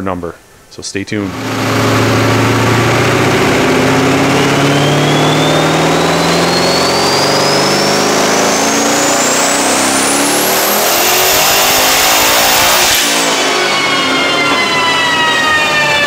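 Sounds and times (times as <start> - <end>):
engine revving at full throttle: 1.2 - 16.0
high turbo whine: 1.2 - 16.0.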